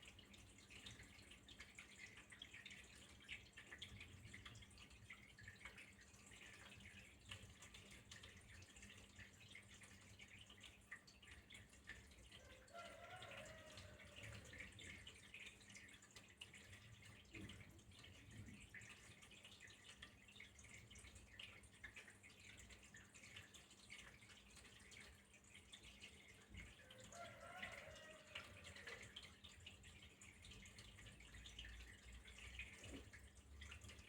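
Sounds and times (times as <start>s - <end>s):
water trickling and dripping: 0.0s - 34.0s.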